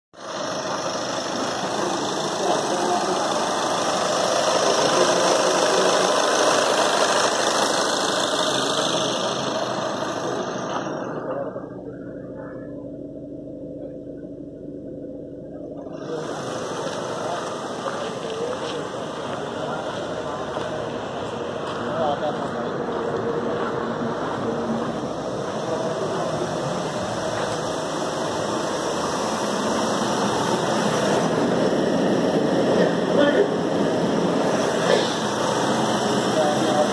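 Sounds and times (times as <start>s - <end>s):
car engine running: 0.1s - 36.9s.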